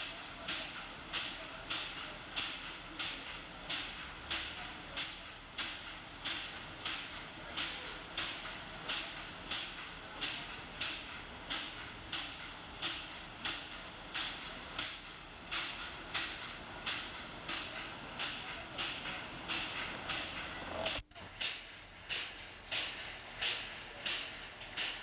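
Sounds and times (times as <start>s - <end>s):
steam locomotive hissing puffs: 0.0s - 25.0s.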